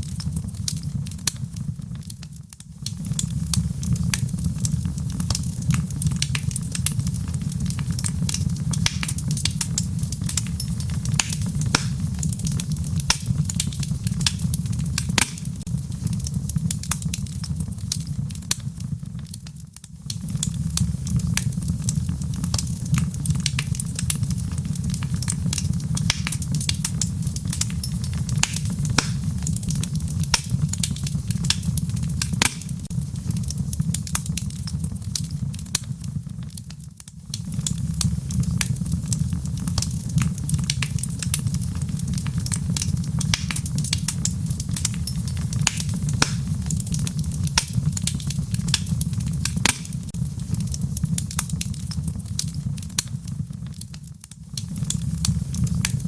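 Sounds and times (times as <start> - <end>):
fire crackling and popping: 0.0 - 56.0
flames rumbling: 0.0 - 56.0.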